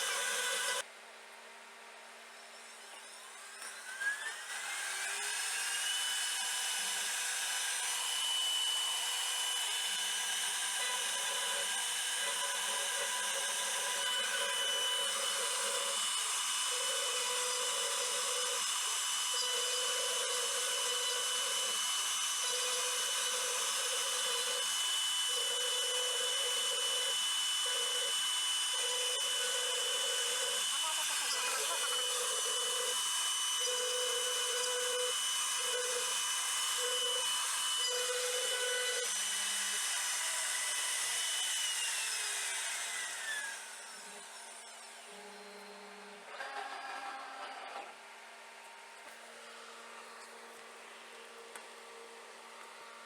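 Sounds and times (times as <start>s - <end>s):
router bit cutting wood: 0.0s - 0.8s, 2.9s - 48.2s
router spindle high whine: 0.0s - 0.9s, 1.8s - 53.0s.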